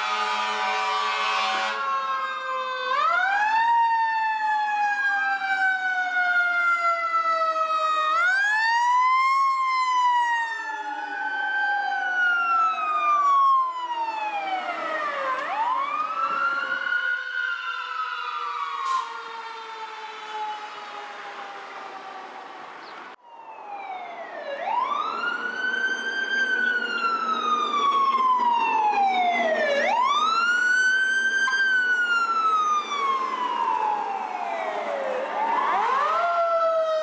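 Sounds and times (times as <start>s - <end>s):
fire truck engines running: 0.0s - 37.0s
fire truck sirens wailing: 0.0s - 37.0s.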